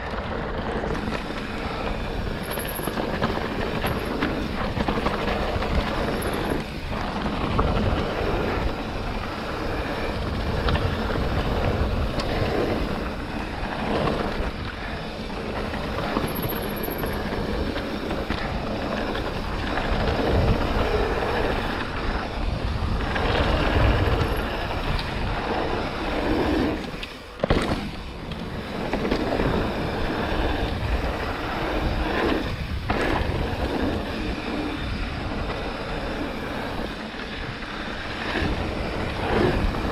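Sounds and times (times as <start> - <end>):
bike rattling: 0.0 - 39.9
bike tyres rolling over dirt: 0.0 - 39.9
wind buffeting microphone: 0.0 - 39.9.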